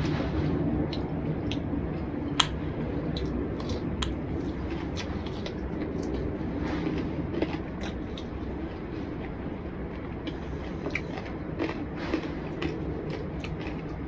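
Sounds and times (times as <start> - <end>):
low rumble: 0.0 - 14.0
chewing: 0.9 - 14.0.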